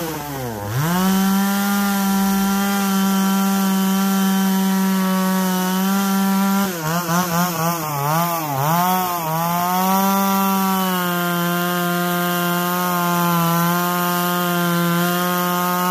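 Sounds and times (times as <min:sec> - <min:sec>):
chainsaw cutting a log: 0:00.0 - 0:15.9.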